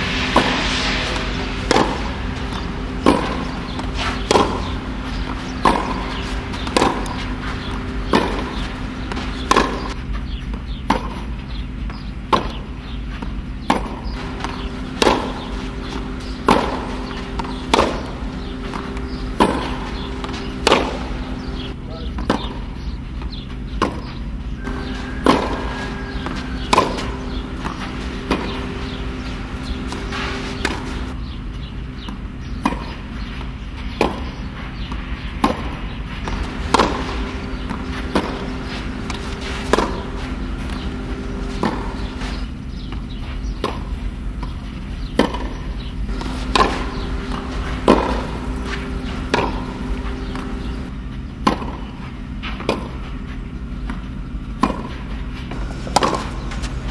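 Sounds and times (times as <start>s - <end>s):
steady low hum: 0.0s - 56.9s
tennis ball struck by racket: 1.7s - 10.0s, 13.2s - 24.1s, 24.7s - 31.1s, 33.9s - 45.6s, 46.2s - 53.2s, 53.8s - 56.8s.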